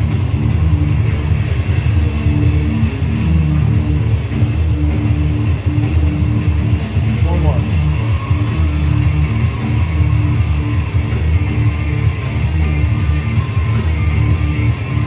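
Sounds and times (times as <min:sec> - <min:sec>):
rock music with guitars: 0:00.0 - 0:15.0.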